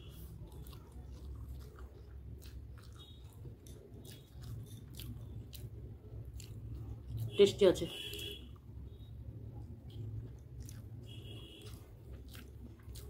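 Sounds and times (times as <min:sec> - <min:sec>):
person chewing noodles: 0:00.0 - 0:07.4, 0:08.0 - 0:13.0.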